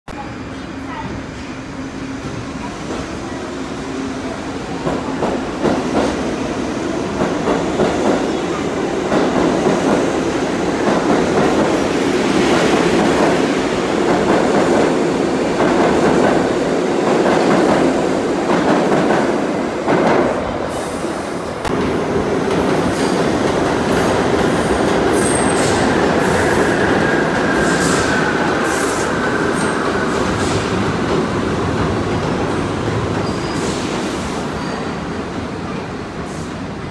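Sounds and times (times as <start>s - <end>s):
subway train rumble: 0.1s - 36.9s.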